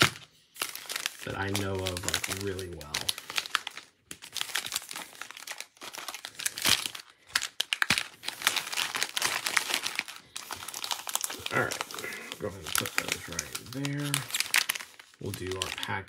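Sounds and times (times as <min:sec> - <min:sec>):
foil wrappers crinkling: 0:00.0 - 0:16.0.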